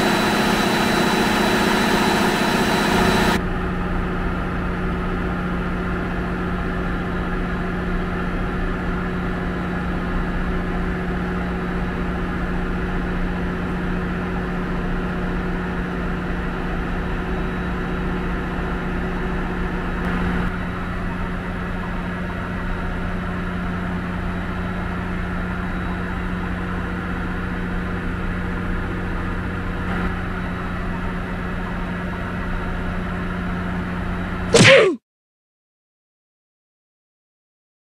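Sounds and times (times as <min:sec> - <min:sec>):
engine-room machinery droning: 0:00.0 - 0:34.5.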